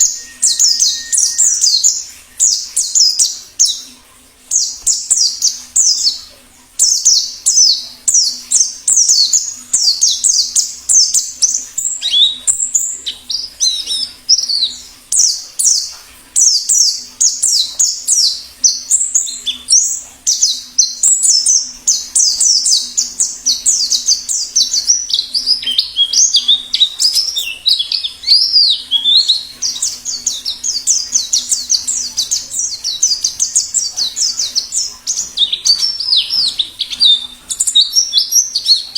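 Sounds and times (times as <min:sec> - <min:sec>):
bird singing fast chattering song: 0:00.0 - 0:03.9, 0:04.5 - 0:38.9.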